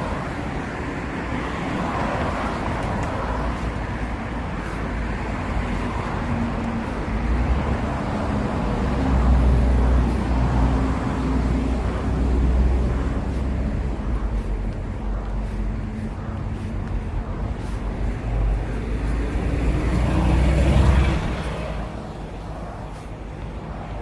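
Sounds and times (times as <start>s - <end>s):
road traffic noise: 0.0s - 24.0s
vehicle engines running nearby: 0.0s - 24.0s.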